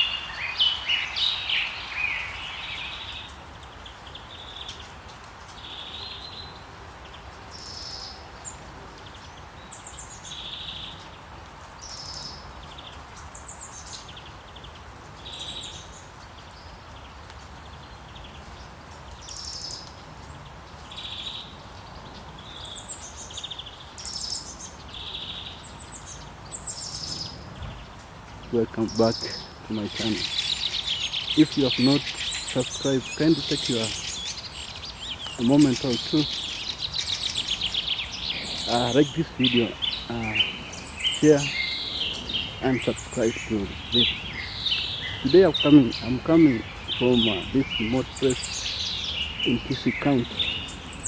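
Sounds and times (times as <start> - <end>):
birds calling and singing: 0.0 - 51.0
steady background hiss: 0.0 - 51.0.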